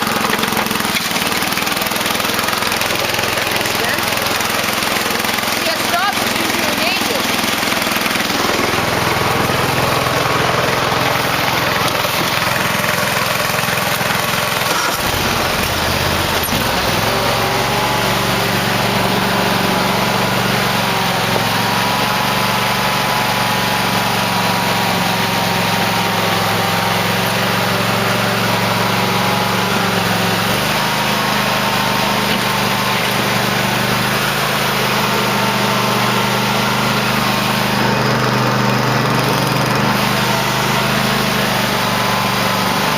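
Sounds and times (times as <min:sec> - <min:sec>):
lawn tractor engine running: 0:00.0 - 0:42.9.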